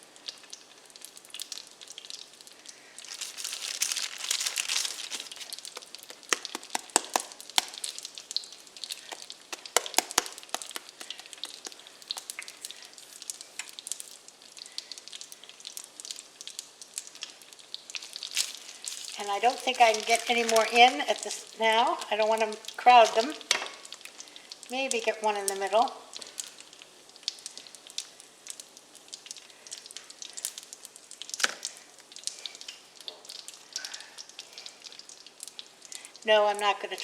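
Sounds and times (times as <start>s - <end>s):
dough sizzling in hot oil: 0.0s - 37.0s.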